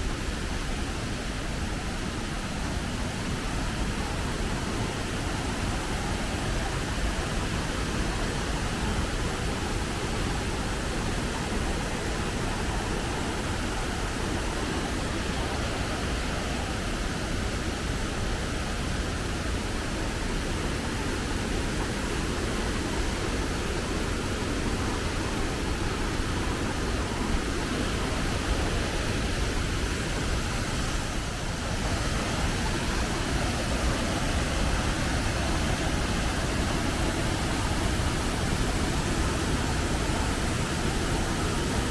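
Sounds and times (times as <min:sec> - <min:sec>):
waterfall roaring: 0:00.0 - 0:41.9.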